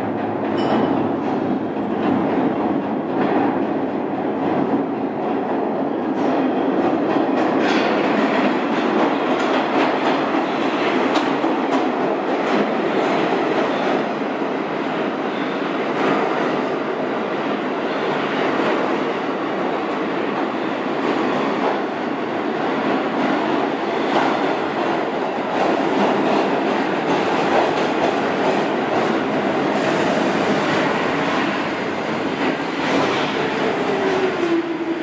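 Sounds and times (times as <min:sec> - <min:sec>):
subway train rumbling: 0:00.0 - 0:35.0.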